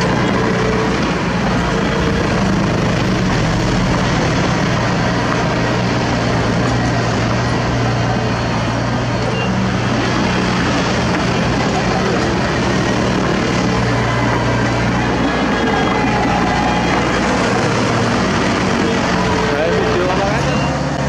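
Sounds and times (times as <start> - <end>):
bulldozer diesel engine running: 0.0 - 21.0
dump truck engine running: 0.0 - 21.0.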